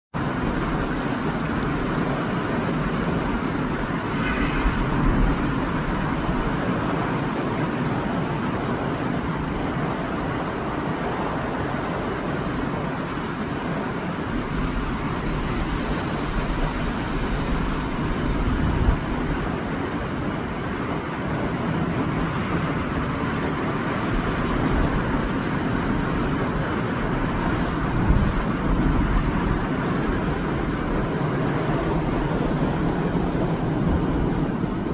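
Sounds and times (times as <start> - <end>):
rushing outdoor noise: 0.1 - 34.9.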